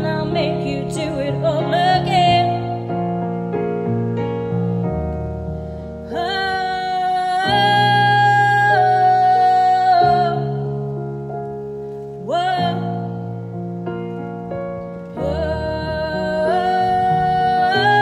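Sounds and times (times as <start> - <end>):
piano backing track: 0.0 - 18.0.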